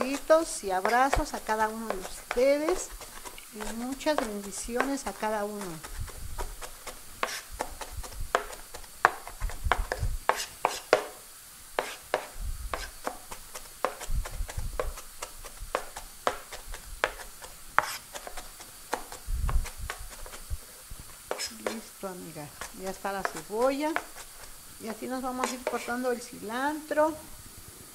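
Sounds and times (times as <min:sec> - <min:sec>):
knife chopping on cutting board: 0:00.0 - 0:11.2, 0:11.8 - 0:20.5, 0:21.3 - 0:21.8, 0:22.5 - 0:26.0.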